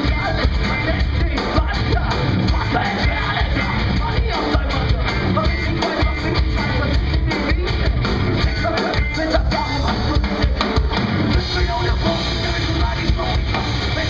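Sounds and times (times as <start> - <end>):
metal band playing live: 0.0 - 14.0.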